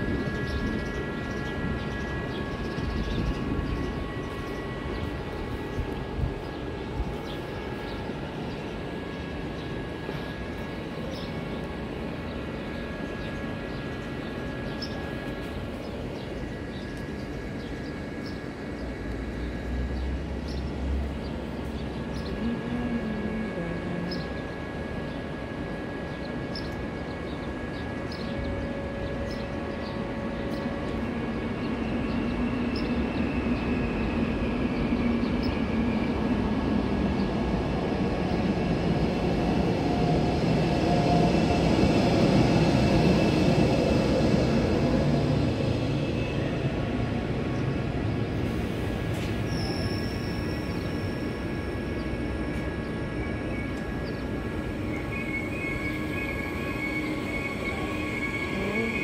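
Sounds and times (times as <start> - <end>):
electric train hum and rumble: 0.0 - 59.0.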